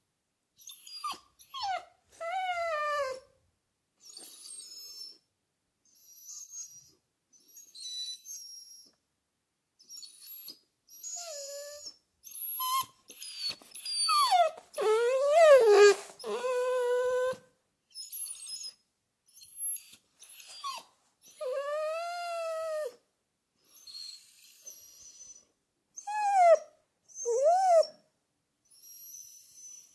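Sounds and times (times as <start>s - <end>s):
dog whimpering and whining: 0.6s - 3.4s, 4.0s - 5.3s, 5.9s - 9.0s, 9.8s - 23.0s, 23.7s - 29.9s.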